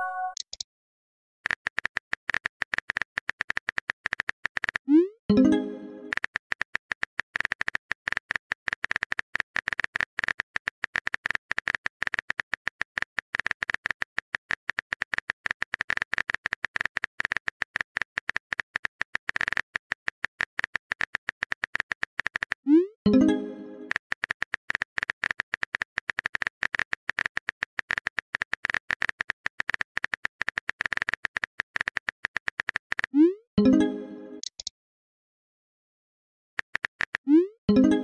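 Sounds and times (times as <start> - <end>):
phone keyboard typing clicks: 1.4 - 34.7, 36.6 - 38.0.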